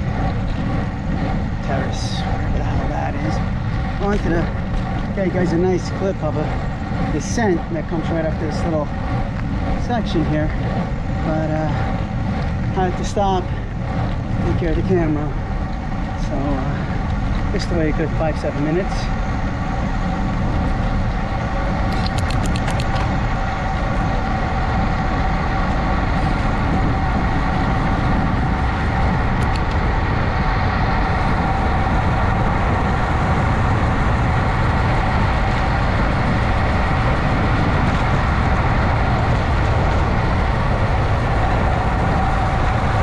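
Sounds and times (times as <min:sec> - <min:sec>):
low rumble: 0:00.0 - 0:43.0
vehicle engine drone: 0:00.0 - 0:43.0.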